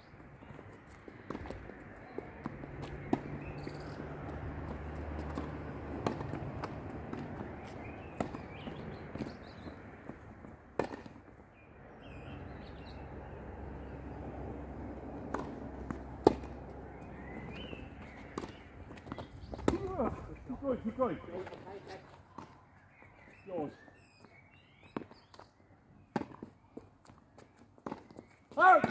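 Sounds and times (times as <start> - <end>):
tennis balls struck and bouncing: 0.1 - 22.9, 24.8 - 25.4, 26.0 - 28.9.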